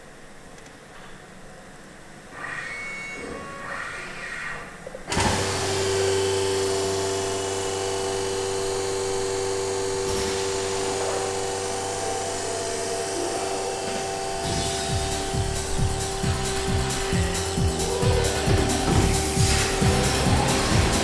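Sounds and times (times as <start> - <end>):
machining centre whine and hum: 0.0 - 21.0.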